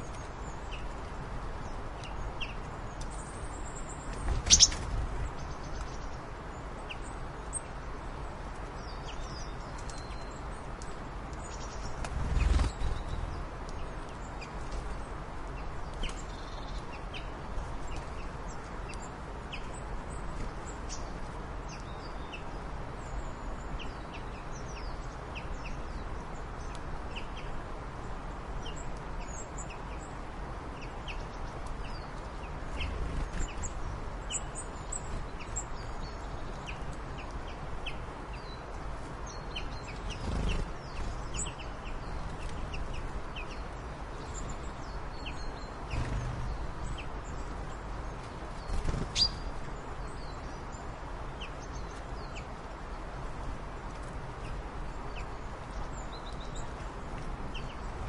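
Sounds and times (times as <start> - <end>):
birds chirping: 0.0 - 8.2, 8.8 - 30.2, 30.8 - 52.6
steady background hiss: 0.0 - 58.0.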